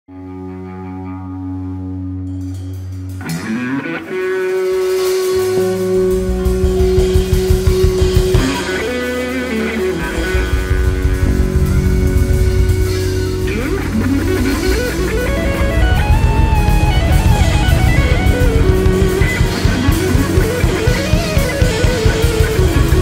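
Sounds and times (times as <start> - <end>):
bass guitar: 0.1 - 23.0
electric guitar lead notes: 0.1 - 23.0
drum kit steady beat: 2.4 - 23.0.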